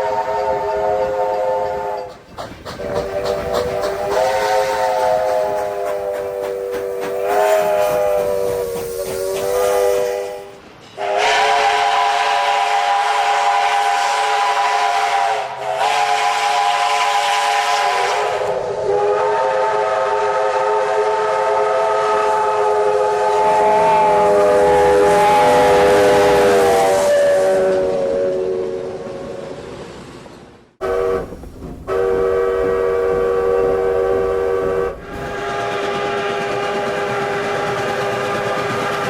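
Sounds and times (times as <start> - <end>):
steam locomotive chime whistle: 0.0 - 2.2, 2.8 - 29.3, 30.8 - 39.0
steam hiss: 0.0 - 39.0.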